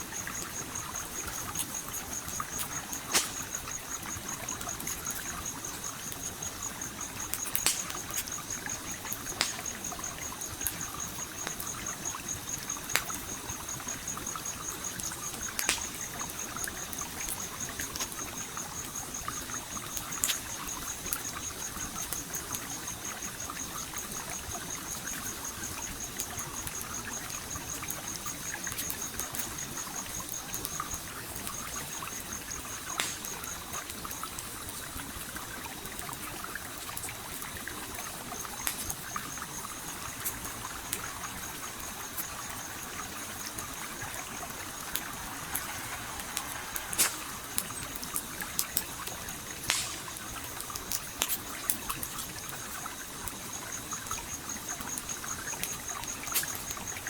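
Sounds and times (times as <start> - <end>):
campfire crackling: 0.0 - 57.0
stream flowing and trickling: 0.0 - 57.0.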